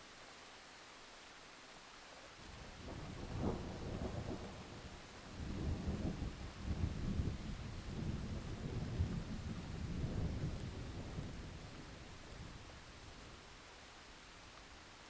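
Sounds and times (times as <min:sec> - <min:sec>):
rain: 0:00.0 - 0:15.0
soft steady hiss: 0:00.0 - 0:15.0.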